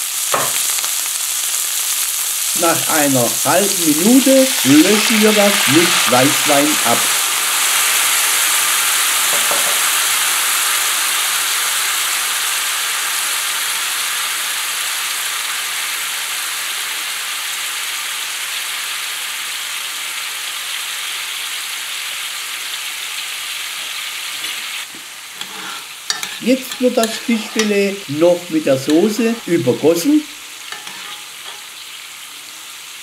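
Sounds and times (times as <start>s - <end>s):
fish sizzling in a pan: 0.0s - 33.0s.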